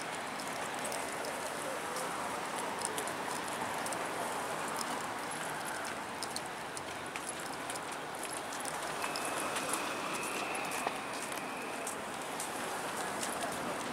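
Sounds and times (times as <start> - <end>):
road traffic hiss: 0.0 - 13.9
footsteps on pavement: 0.1 - 13.9.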